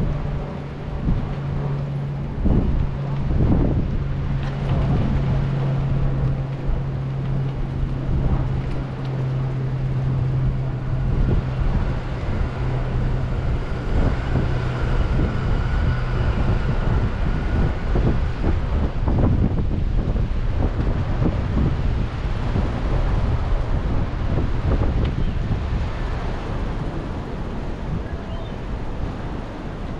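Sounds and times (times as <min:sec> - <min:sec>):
steady low hum: 0:00.0 - 0:29.9
wind buffeting microphone: 0:00.0 - 0:29.9
bicycle tyres rolling on wooden planks: 0:02.2 - 0:27.0.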